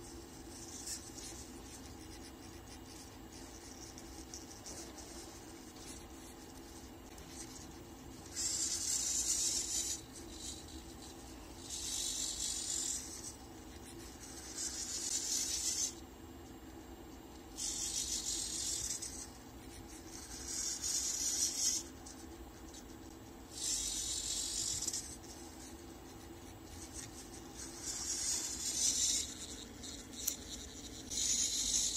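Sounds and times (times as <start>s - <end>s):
marker scratching across paper: 0.0s - 16.0s, 16.6s - 31.9s
steady low hum: 0.0s - 31.9s.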